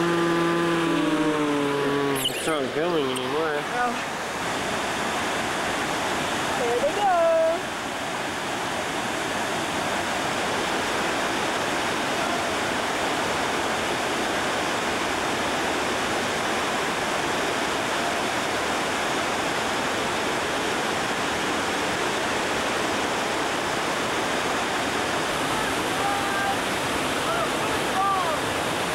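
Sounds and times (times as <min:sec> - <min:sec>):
whitewater rushing over rocks: 0:00.0 - 0:28.9.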